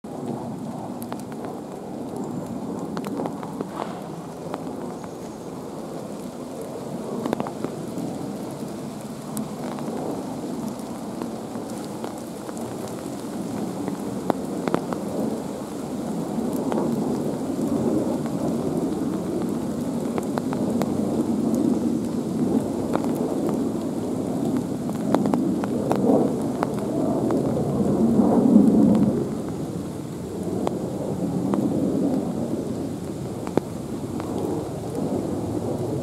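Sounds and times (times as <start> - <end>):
raindrop ticks: 0.1 - 36.0
steady rain hiss: 0.1 - 36.0.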